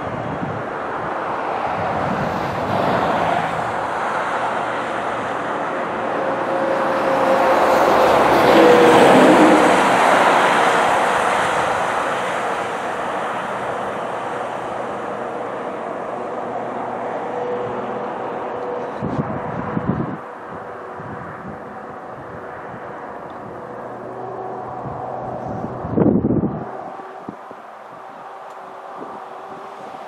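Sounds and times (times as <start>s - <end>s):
diesel locomotive rumble: 0.0s - 30.0s.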